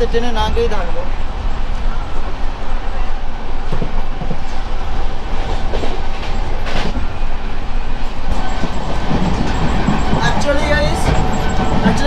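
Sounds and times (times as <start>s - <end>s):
train running rumble and rattle: 0.0s - 12.0s.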